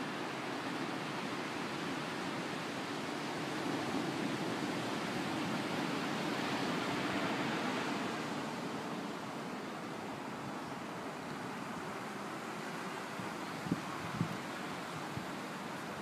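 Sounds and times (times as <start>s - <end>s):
car road and wind noise: 0.0s - 16.0s.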